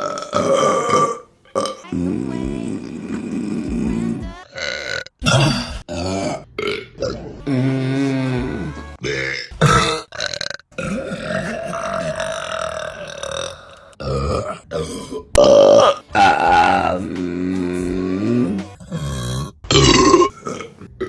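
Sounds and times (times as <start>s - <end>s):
woman burping: 0.0s - 17.0s, 18.0s - 20.8s.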